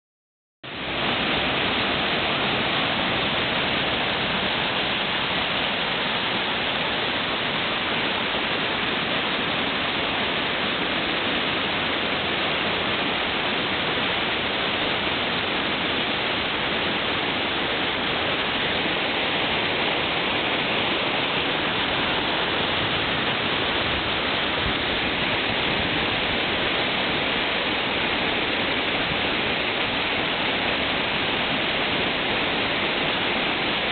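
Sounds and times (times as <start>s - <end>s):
whitewater rapid rushing: 0.7s - 33.9s.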